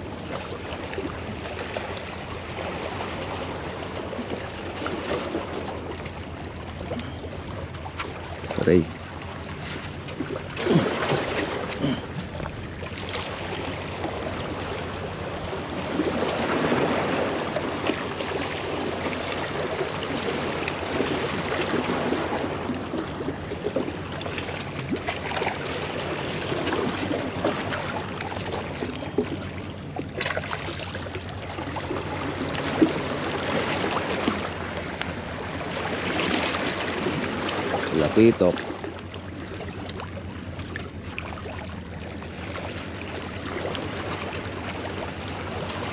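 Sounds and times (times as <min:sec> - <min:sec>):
waves sloshing against rocks: 0:00.0 - 0:45.9.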